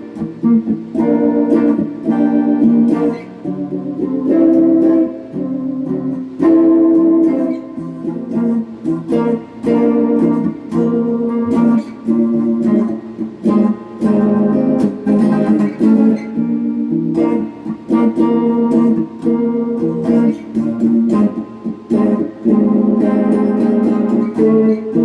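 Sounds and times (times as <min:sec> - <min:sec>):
electric guitar chords overdriven: 0:00.0 - 0:25.0.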